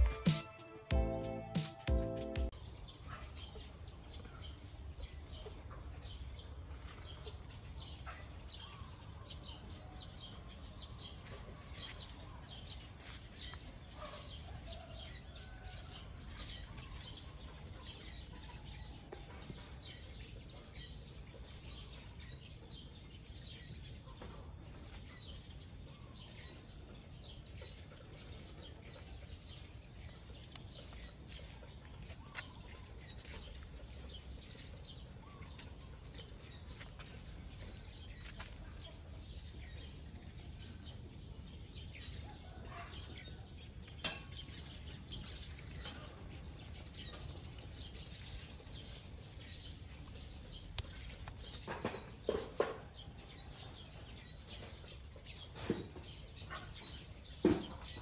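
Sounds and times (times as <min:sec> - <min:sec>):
small birds chirping: 0:00.9 - 0:58.0.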